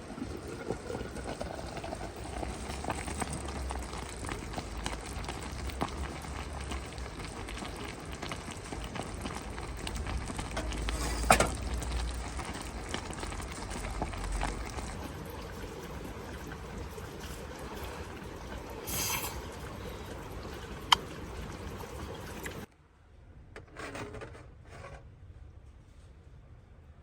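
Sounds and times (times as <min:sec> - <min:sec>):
pot bubbling: 0:00.0 - 0:22.7.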